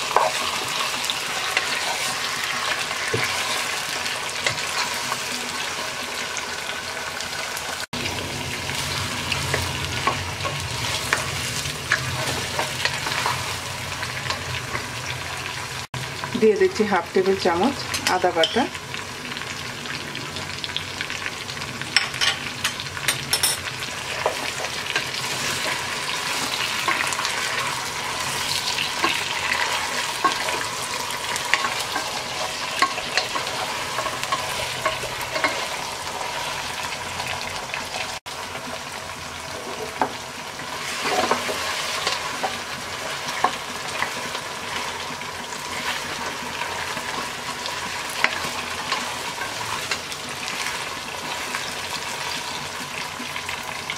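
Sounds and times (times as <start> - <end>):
chicken and onion sizzling in oil: 0.0 - 53.9.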